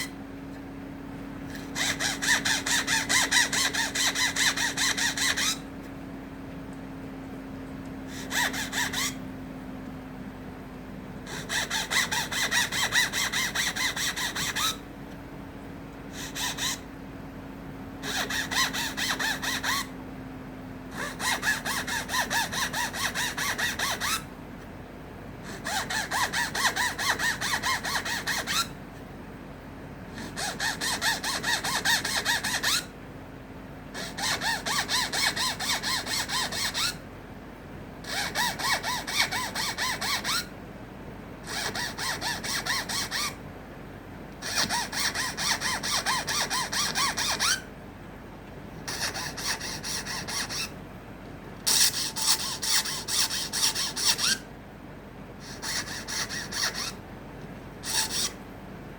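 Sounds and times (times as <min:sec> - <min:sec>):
faint steady hum: 0:00.0 - 0:58.9.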